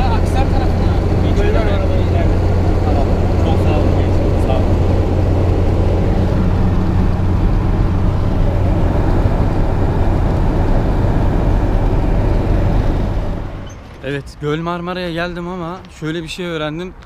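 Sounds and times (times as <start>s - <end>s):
road and wind noise: 0.0s - 17.0s
truck engine hum: 0.0s - 17.0s.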